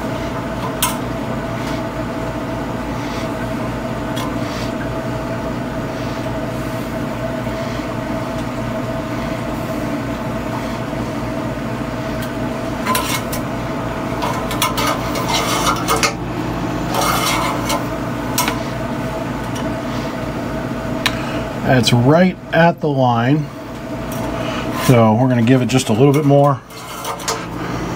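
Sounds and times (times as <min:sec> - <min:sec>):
machine hum: 0:00.0 - 0:27.9.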